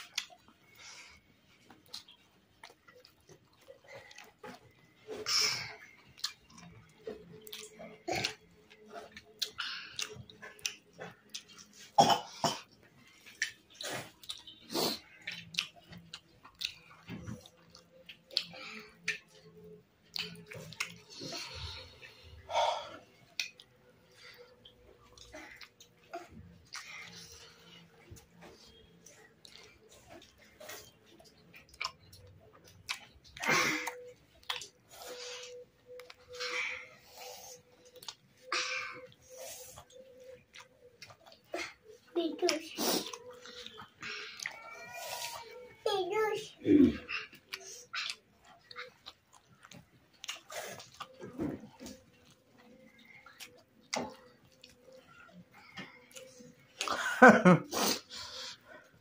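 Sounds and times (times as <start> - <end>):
person chewing and lip smacking: 0.0 - 12.0, 12.7 - 45.7, 46.9 - 59.0.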